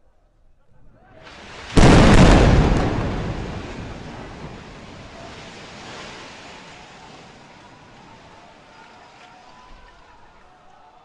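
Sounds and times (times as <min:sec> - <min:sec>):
building collapse rumble: 0:01.0 - 0:10.3.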